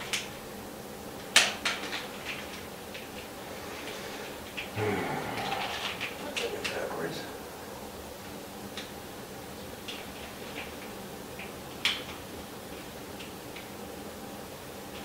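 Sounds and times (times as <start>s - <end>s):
steady low hum: 2.7s - 14.9s.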